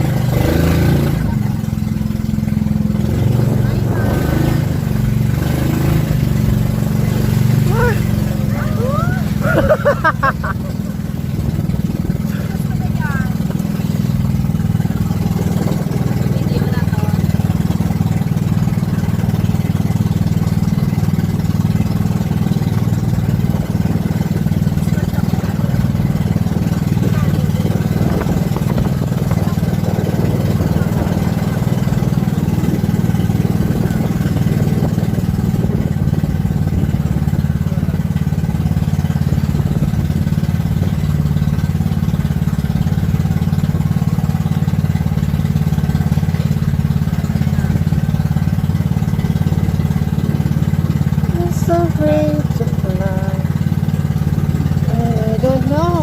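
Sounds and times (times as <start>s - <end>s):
engine droning: 0.0s - 56.0s.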